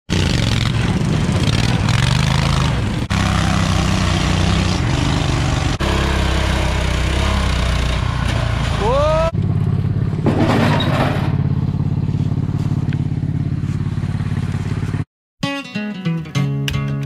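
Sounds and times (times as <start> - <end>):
small tractor engines running hard: 0.1 - 15.1.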